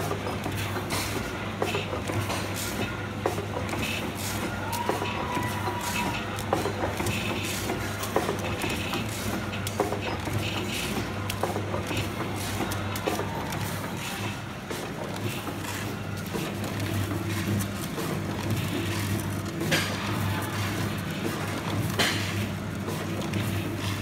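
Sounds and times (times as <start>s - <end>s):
machine clacking: 0.0s - 24.0s
packing machine motor hum: 0.0s - 24.0s.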